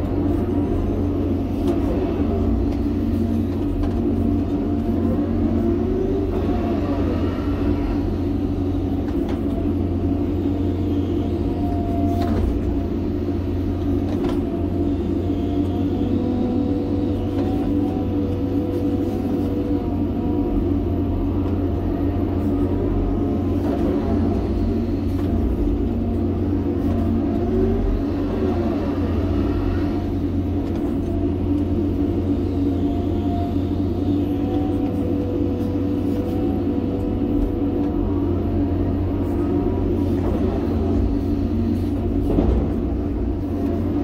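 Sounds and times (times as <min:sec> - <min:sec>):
excavator diesel engine running: 0:00.0 - 0:44.0
hydraulic whine: 0:00.0 - 0:44.0.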